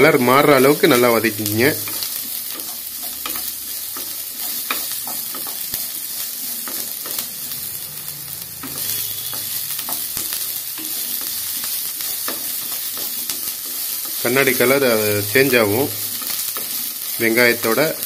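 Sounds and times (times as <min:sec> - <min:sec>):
onions sizzling in oil: 0:00.0 - 0:18.0
spatula scraping and tapping pan: 0:00.6 - 0:07.6, 0:08.2 - 0:18.0.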